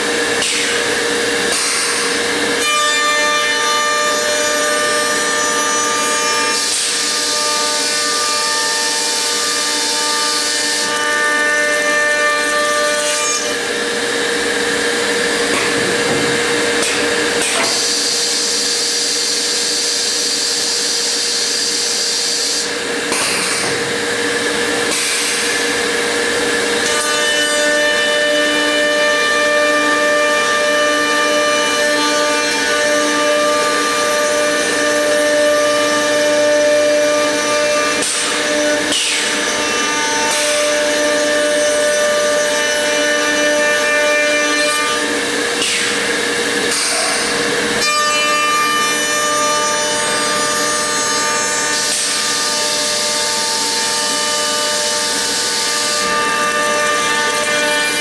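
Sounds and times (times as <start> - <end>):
router cutting wood: 0.0 - 58.0
router motors whining: 0.0 - 58.0.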